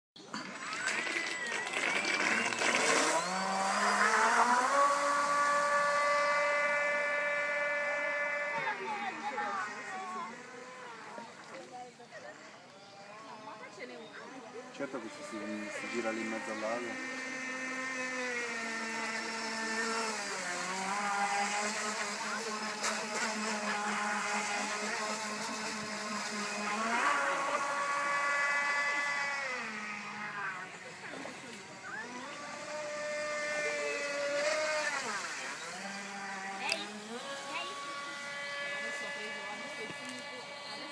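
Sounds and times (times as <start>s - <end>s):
model boat motor whining: 0.2s - 40.9s.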